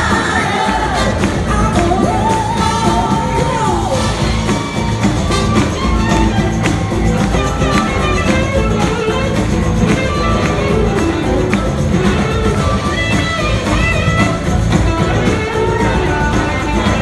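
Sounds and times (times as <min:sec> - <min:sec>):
live funk-rock band playing: 0:00.0 - 0:17.0.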